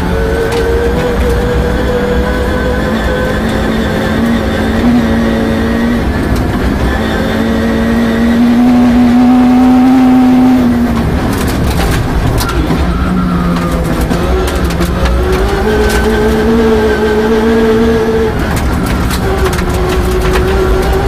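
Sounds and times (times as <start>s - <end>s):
gravel striking car: 0.0s - 21.0s
rally car engine at high revs: 0.0s - 21.0s.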